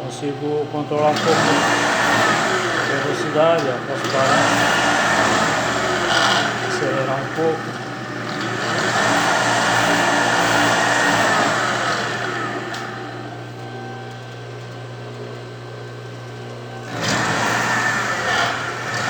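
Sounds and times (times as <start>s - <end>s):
sewing machine motor running: 0.5s - 13.6s, 16.8s - 19.0s.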